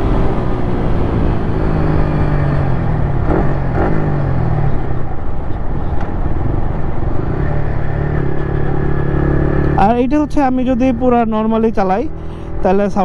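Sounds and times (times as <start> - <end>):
motorcycle engine running: 0.0 - 12.9
road and wind noise: 0.0 - 13.0.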